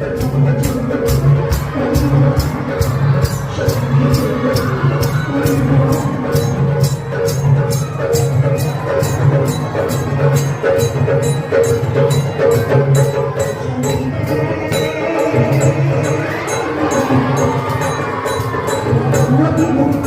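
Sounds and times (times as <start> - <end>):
sharp percussion strikes: 0.0 - 20.0.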